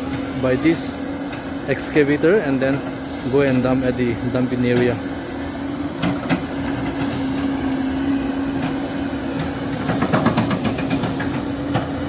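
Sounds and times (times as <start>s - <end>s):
diesel engine hum: 0.0s - 12.0s.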